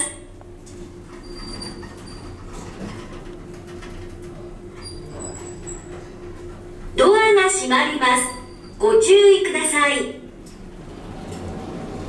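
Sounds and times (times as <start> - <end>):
ship machinery hum: 0.0 - 12.0
ventilation drone: 0.0 - 12.0.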